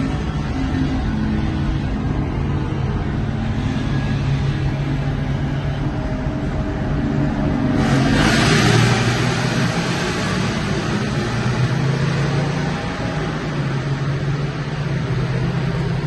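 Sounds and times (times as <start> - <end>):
car engine droning: 0.0 - 16.0
road and wind noise: 0.0 - 16.0.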